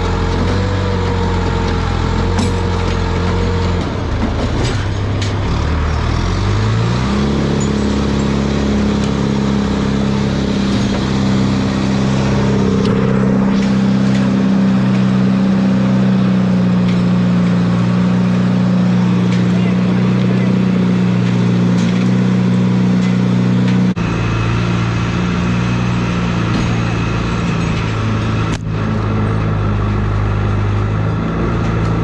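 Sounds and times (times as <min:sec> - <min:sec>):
engine running and speeding up: 0:00.0 - 0:32.0.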